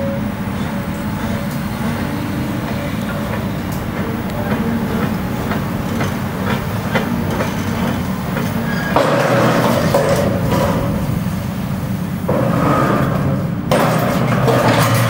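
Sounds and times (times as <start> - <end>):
excavator engine running: 0.0 - 15.0
loud harsh noise: 0.0 - 15.0.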